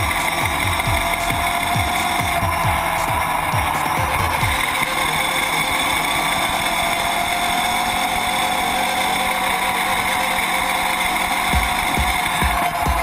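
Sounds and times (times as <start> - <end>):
motorcycle engine at high speed: 0.0 - 13.0.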